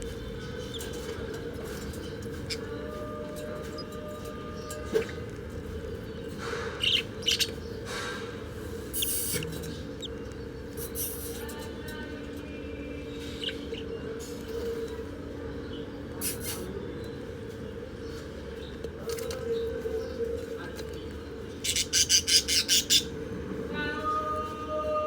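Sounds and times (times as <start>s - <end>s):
baby birds cheeping: 0.0s - 17.3s, 17.9s - 23.2s.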